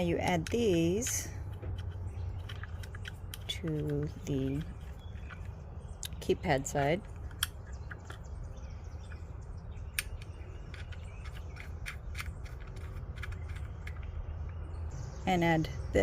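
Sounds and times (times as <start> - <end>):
metal lock parts clicking: 0.0 - 9.2, 9.8 - 14.7.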